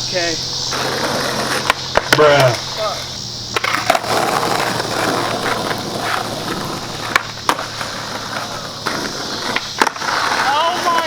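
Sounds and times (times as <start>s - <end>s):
skateboard wheels rolling on pavement: 0.0s - 11.0s
skateboard clacking on ground: 0.6s - 11.0s.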